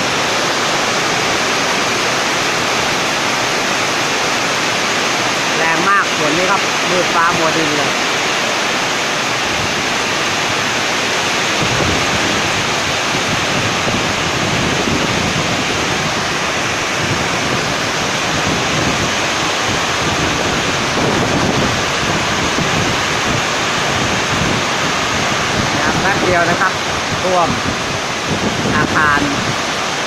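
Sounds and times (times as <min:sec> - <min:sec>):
gusting wind: 0:00.0 - 0:30.0
heavy rain pouring: 0:00.0 - 0:30.0
wind buffeting microphone: 0:00.0 - 0:30.0.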